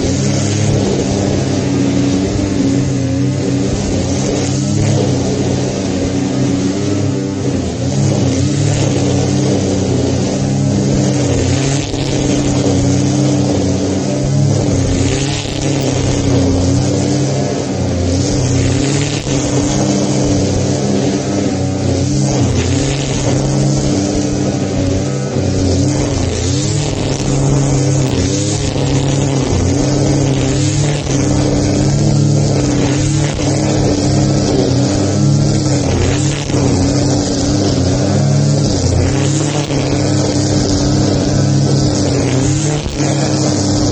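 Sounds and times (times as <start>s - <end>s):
grass cutter engine running: 0.0s - 43.9s.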